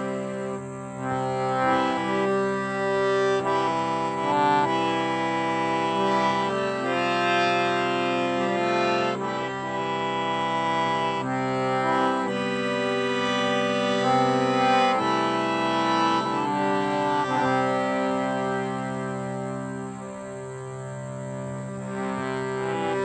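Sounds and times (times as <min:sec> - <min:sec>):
harmonium playing chords: 0:00.0 - 0:23.0.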